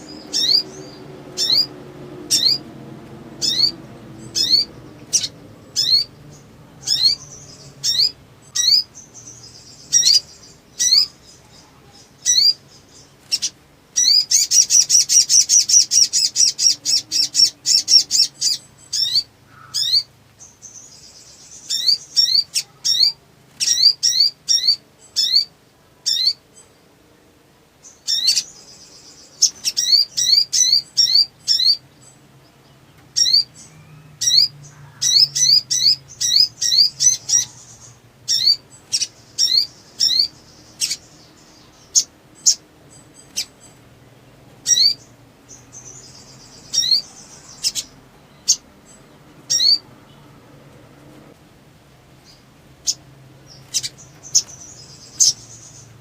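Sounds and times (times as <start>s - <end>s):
bird chirping and trilling: 0.0s - 26.8s, 27.8s - 50.4s, 52.2s - 56.0s.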